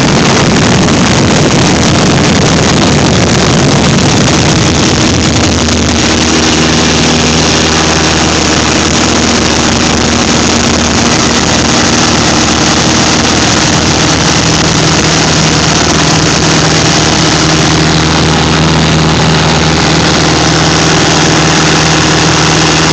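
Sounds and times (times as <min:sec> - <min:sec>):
light aircraft engine and propeller: 0:00.0 - 0:22.9
wind rushing: 0:00.0 - 0:22.9.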